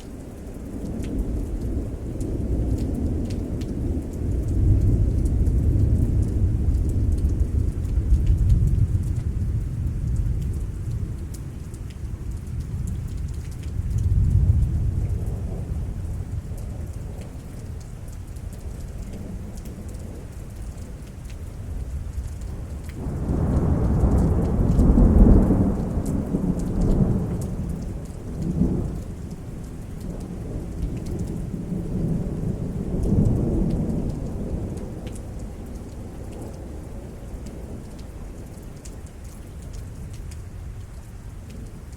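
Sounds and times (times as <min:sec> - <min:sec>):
steady rain: 0:00.0 - 0:41.9
thunder rumbling: 0:00.2 - 0:41.9.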